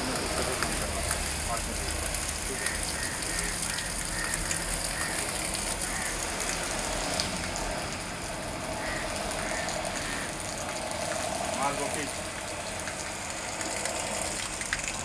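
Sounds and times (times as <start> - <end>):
hose water spray hissing: 0.0 - 15.0.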